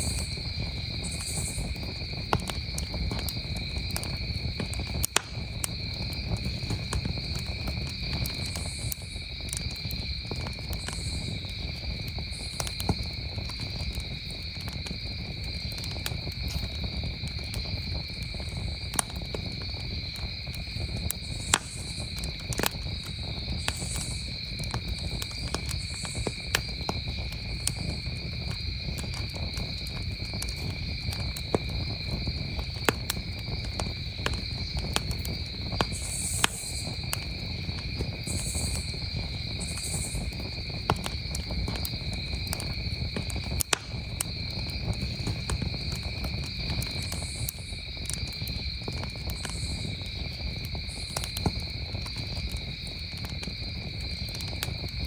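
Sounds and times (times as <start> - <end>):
campfire crackling: 0.0 - 55.0
crickets trilling: 0.0 - 55.0.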